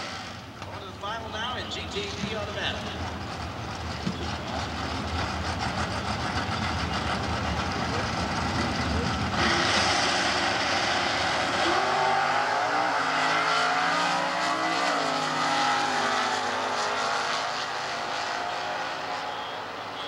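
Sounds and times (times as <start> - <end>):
drag racing engines full throttle: 0.0 - 20.0.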